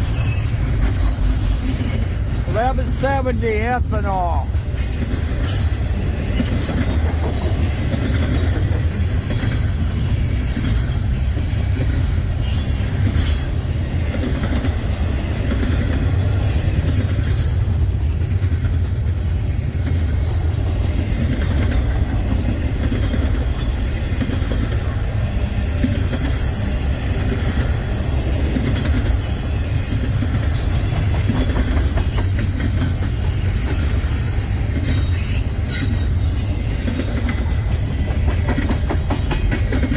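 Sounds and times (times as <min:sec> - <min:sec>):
steel wheels rumbling on rail: 0:00.0 - 0:39.9
wheels clattering over rail joints: 0:04.6 - 0:39.9.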